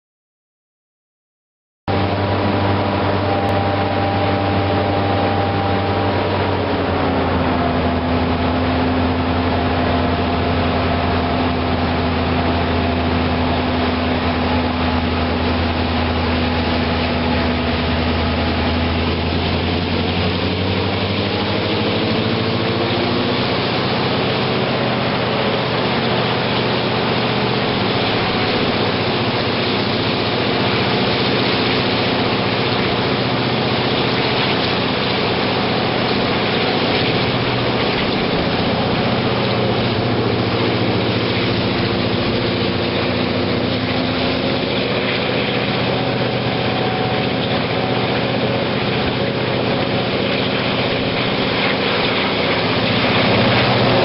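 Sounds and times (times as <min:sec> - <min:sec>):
diesel locomotive engine under load: 0:01.9 - 0:54.0
train wheel and rail noise: 0:01.9 - 0:54.0.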